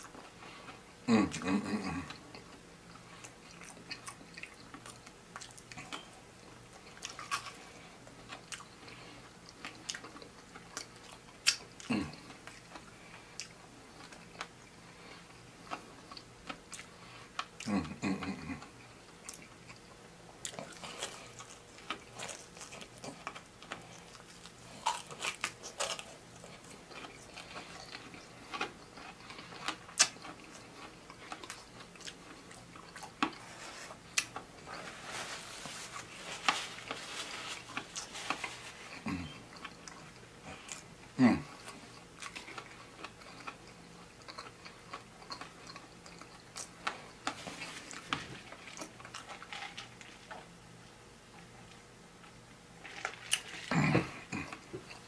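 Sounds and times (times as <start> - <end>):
person chewing: 0.0 - 50.8, 51.4 - 55.0.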